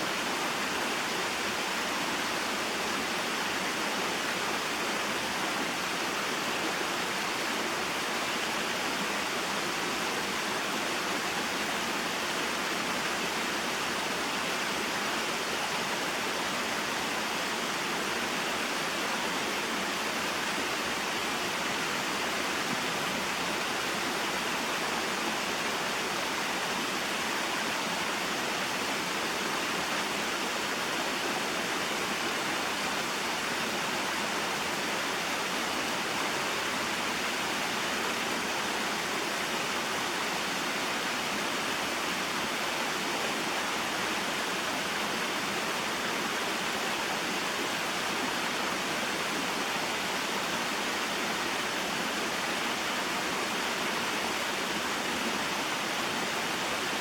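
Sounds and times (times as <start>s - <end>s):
water flowing over rocks: 0.0s - 57.0s.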